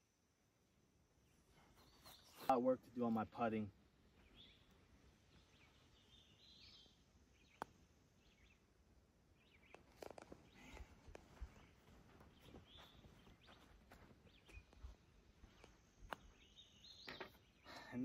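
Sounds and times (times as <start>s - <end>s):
faint birdsong: 0.0s - 18.0s.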